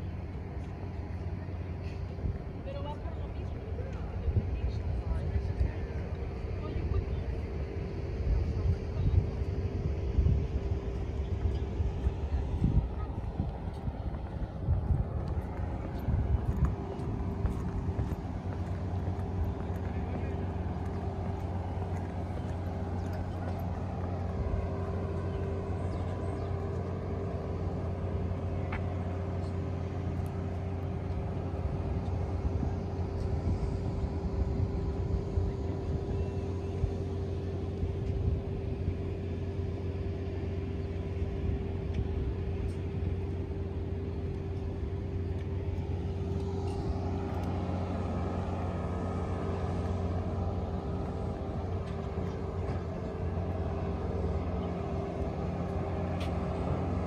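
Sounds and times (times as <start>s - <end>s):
engine idling hum: 0.0s - 57.0s
outdoor background noise: 0.0s - 57.0s.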